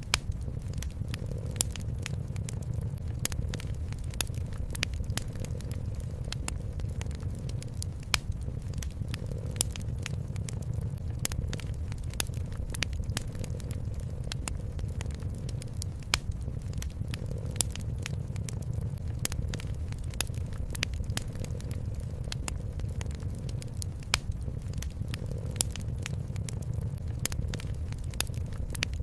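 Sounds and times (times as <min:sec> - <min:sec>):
steady low rumble: 0:00.0 - 0:29.0
wood fire crackling and popping: 0:00.0 - 0:29.0.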